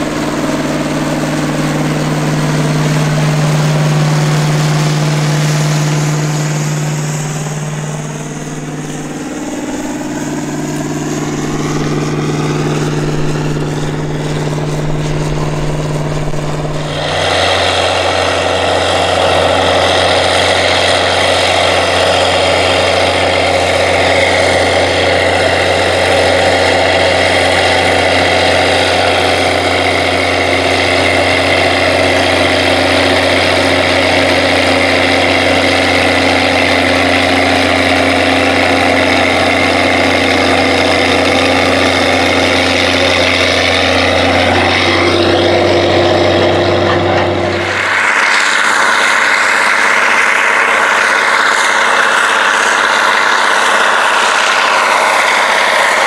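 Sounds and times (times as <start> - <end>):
disk harrow pulled through soil: 0.0 - 56.0
tractor diesel engine: 0.0 - 56.0.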